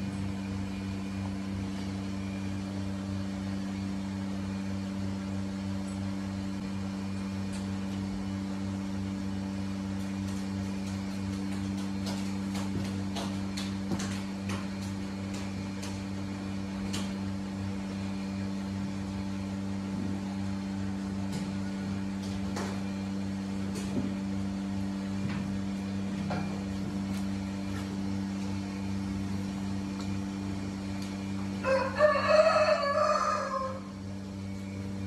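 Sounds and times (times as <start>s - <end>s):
low machinery hum: 0.0s - 35.0s.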